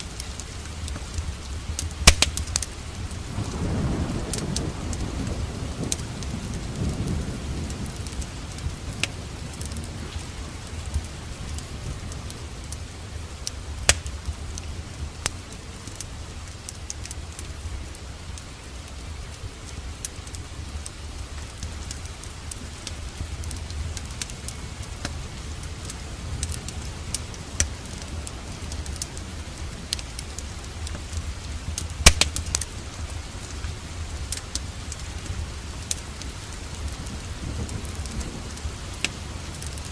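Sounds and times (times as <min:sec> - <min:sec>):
steady rain: 0:00.0 - 0:39.9
wood fire crackling and popping: 0:00.0 - 0:39.9.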